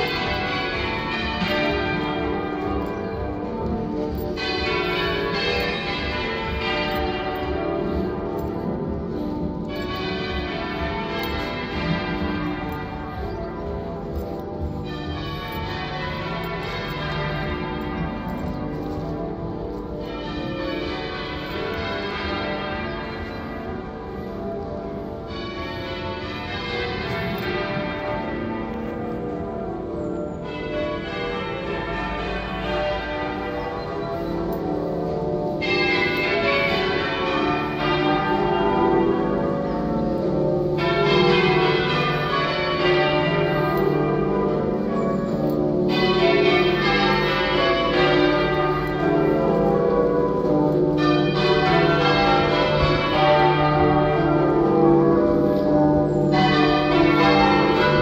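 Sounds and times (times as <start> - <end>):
church bells change ringing: 0.0 - 58.0.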